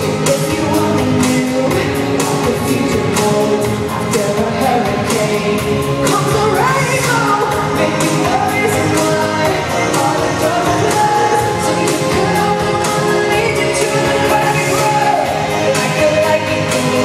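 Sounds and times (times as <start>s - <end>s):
live pop music with woman singing: 0.0s - 17.0s.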